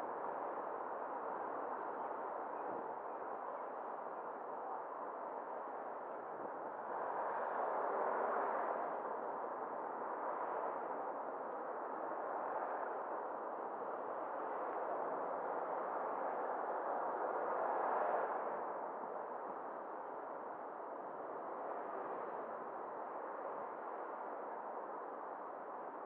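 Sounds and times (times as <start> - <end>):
car road and wind noise: 0.0 - 26.0.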